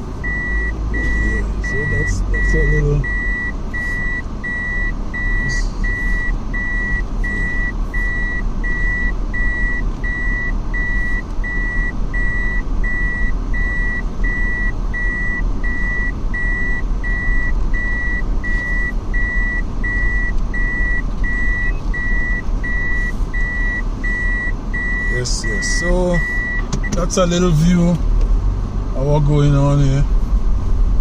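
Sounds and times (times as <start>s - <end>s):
engine rumbling: 0.0s - 31.0s
reversing alarm beeping: 0.2s - 27.4s.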